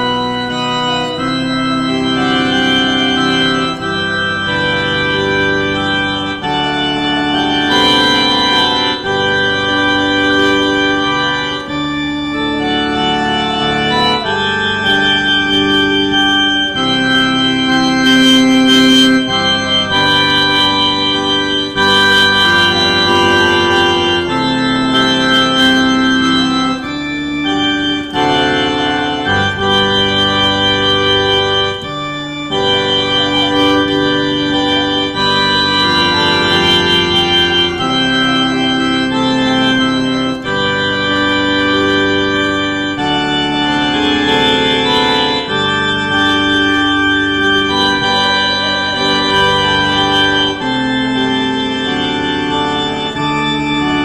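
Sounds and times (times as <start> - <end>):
organ slow held chords: 0.0 - 54.0.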